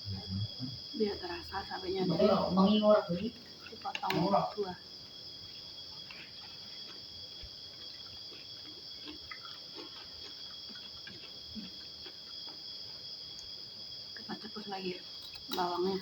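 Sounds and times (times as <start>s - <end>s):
crickets chirring: 0.0s - 16.0s
small eating noises: 0.0s - 16.0s.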